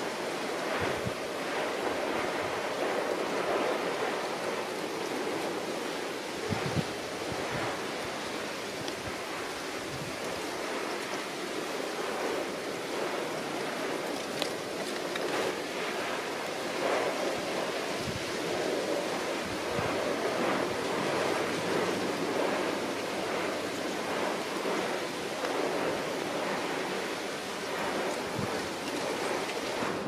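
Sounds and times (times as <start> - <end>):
rushing wind: 0.0 - 30.0.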